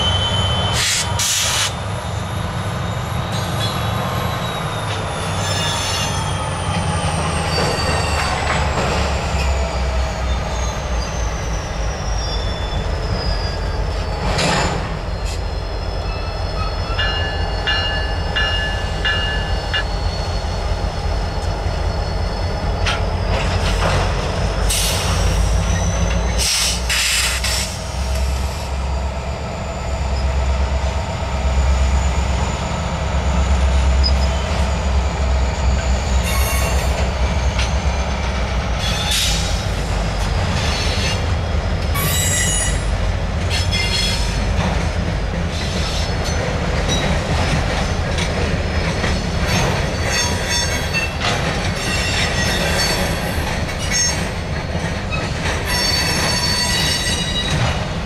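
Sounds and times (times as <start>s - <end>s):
diesel locomotive engine rumble: 0.0s - 58.0s
steel wheels squealing on rails: 0.0s - 58.0s.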